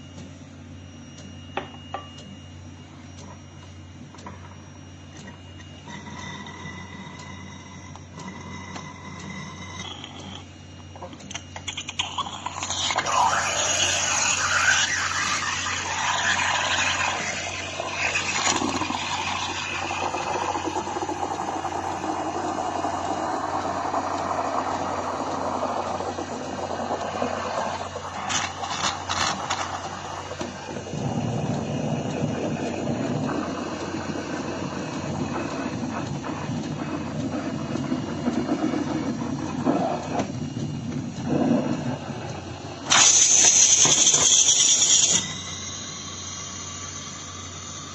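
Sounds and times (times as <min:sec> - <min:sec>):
espresso machine whirring: 0:05.9 - 0:10.5, 0:11.3 - 0:47.9.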